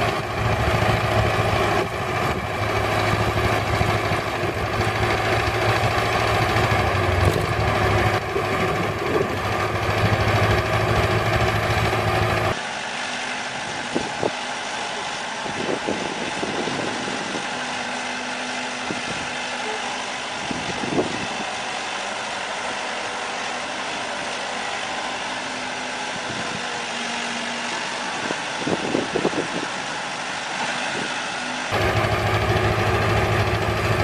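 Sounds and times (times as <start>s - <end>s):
diesel engine humming: 0.0s - 34.0s.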